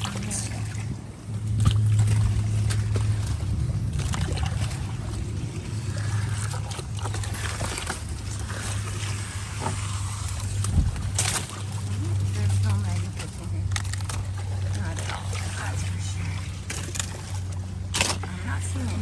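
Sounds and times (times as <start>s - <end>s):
lily pads scraping on kayak hull: 0.0s - 19.0s
steady low hum: 0.0s - 19.0s.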